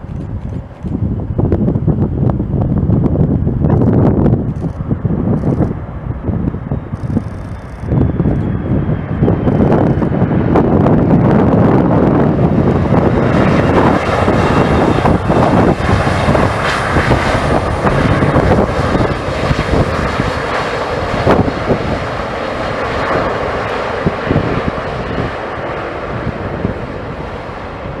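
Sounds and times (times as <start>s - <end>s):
jet engines passing: 0.0s - 28.0s
wind buffeting microphone: 0.0s - 28.0s.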